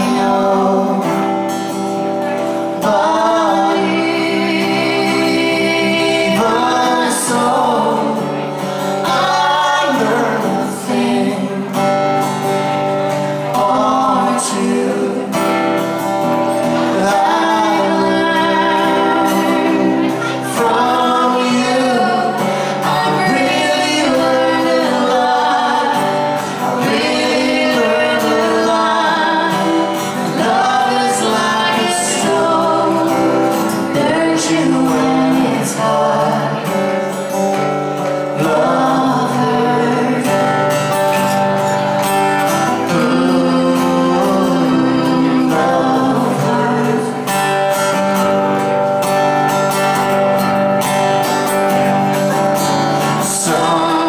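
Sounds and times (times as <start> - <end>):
woman and man singing a ballad: 0.0 - 12.0, 13.3 - 16.0, 16.6 - 37.1, 38.2 - 40.6, 42.6 - 47.6, 53.1 - 54.0.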